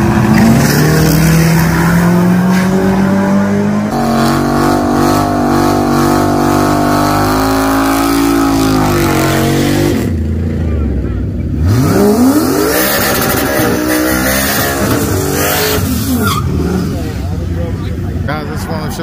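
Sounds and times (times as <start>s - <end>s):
drag racing car engine revving: 0.0s - 10.4s, 11.5s - 17.6s.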